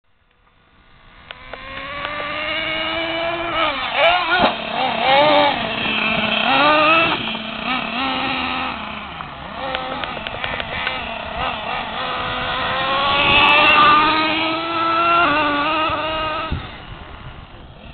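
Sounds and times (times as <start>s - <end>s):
rc truck motor whining: 0.6s - 17.9s.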